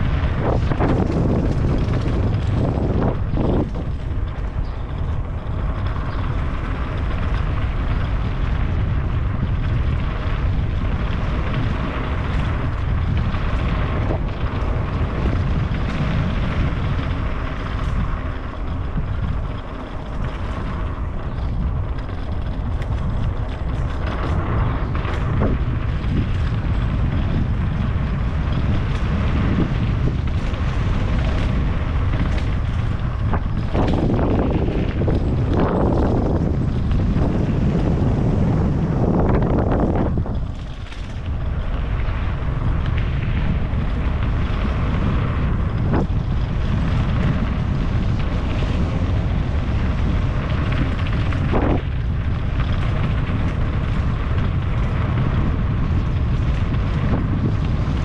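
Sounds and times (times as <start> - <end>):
steady low rumble: 0.0 - 58.0
wind rushing over microphone: 0.0 - 58.0.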